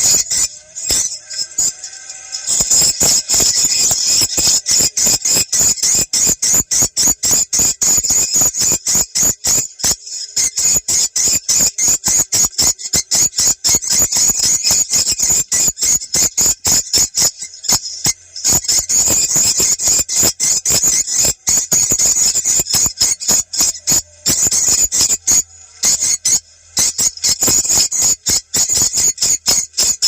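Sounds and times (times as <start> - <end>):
high buzzy bird chirps: 0.0 - 30.0.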